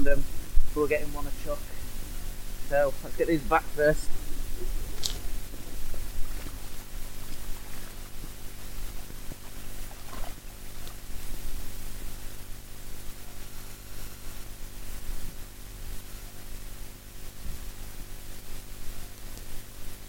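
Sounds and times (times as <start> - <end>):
microphone electrical hum and hiss: 0.0 - 20.0.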